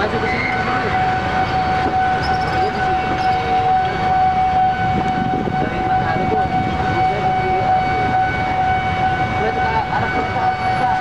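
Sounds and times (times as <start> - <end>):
level-crossing alarm tone: 0.0 - 11.0
train wheels rumbling on rails: 0.0 - 11.0.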